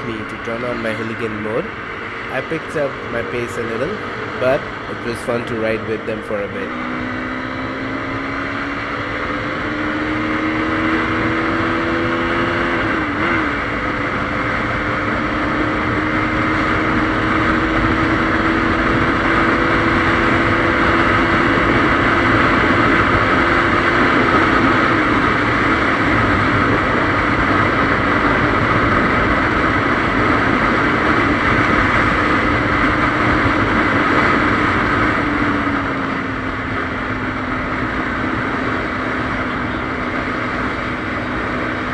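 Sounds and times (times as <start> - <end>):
motorcycle engine pulling at speed: 6.6 - 41.9.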